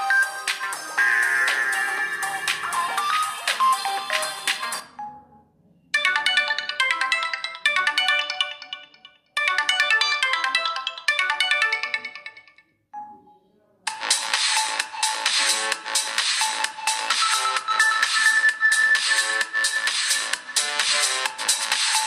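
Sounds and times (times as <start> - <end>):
electronic phone ringtone: 0.0 - 13.4, 14.0 - 22.0.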